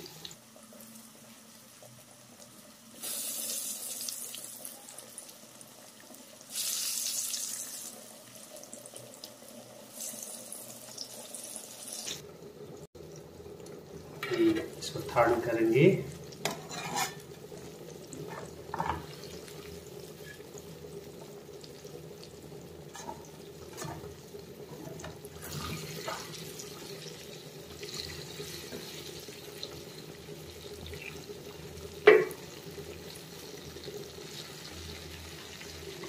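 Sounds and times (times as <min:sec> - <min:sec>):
chicken sizzling in hot oil: 0:00.0 - 0:36.0.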